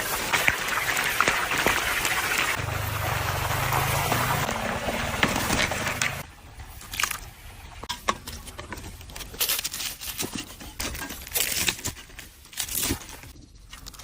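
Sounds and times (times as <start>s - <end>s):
crispy fried food crackling: 0.0s - 7.3s, 8.9s - 14.0s.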